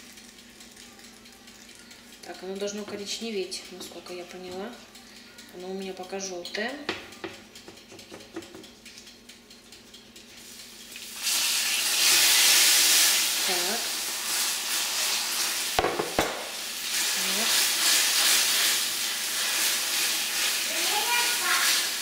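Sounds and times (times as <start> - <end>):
hot sugar syrup sizzling: 0.0 - 22.0.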